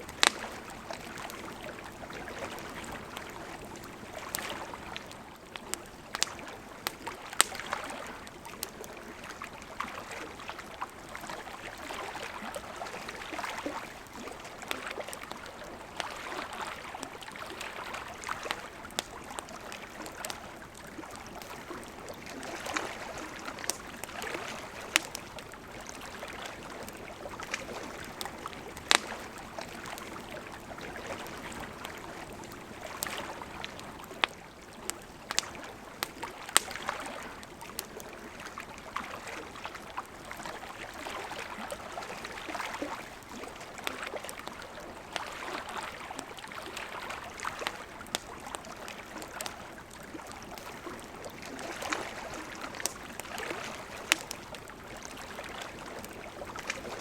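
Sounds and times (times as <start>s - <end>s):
campfire crackling and popping: 0.0s - 57.0s
lake water lapping at shore: 0.0s - 57.0s.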